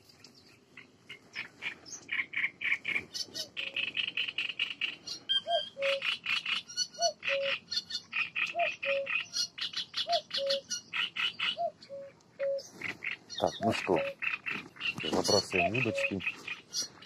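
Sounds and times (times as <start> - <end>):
frogs croaking: 0.7 - 17.0.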